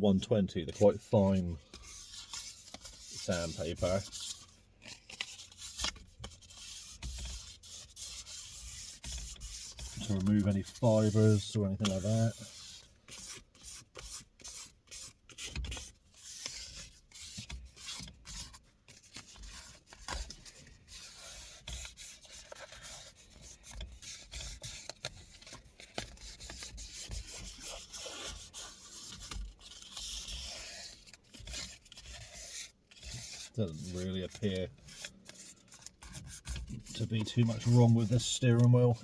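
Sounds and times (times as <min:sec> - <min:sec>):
sandpaper rubbing on leather: 0:00.8 - 0:04.6, 0:05.3 - 0:39.0.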